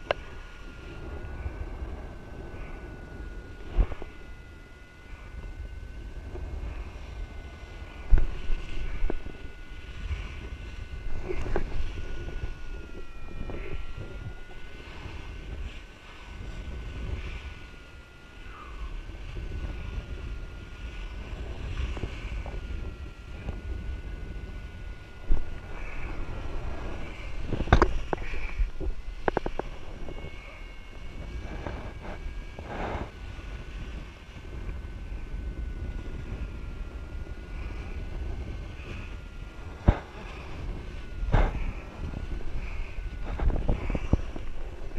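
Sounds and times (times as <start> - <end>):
thin steady high tone: 0.0 - 44.9
wind rushing over microphone: 0.0 - 44.9.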